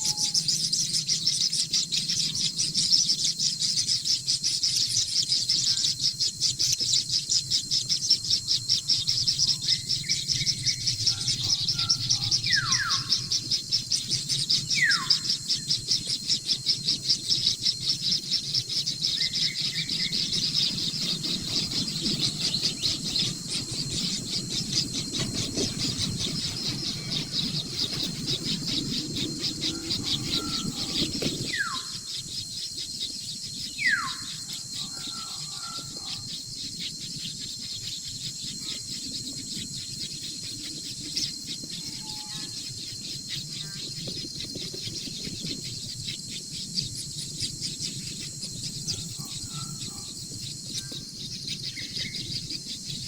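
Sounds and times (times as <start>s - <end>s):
chicks begging chatter: 0.0s - 53.0s.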